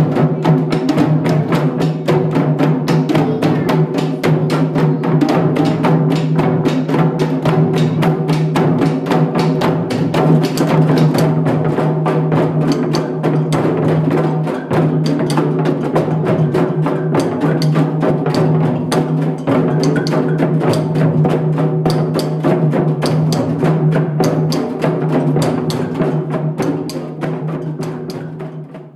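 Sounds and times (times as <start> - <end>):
group hand drumming: 0.0 - 28.9.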